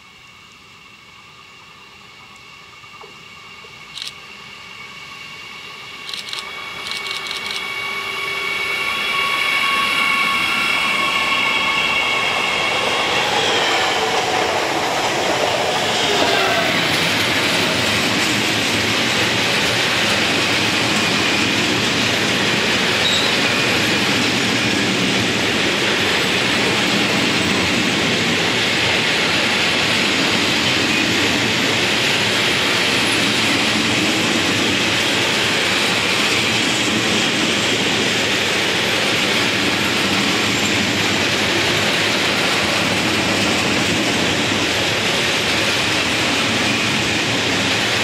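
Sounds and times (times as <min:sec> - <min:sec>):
high whine of train: 0:00.0 - 0:48.0.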